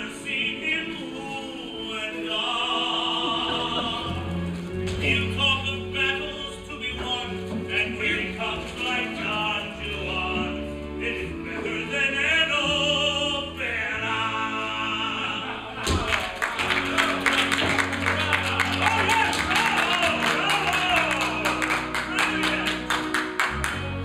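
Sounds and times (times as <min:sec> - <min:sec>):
orchestra playing held chords: 0:00.0 - 0:24.0
person singing: 0:00.0 - 0:24.0.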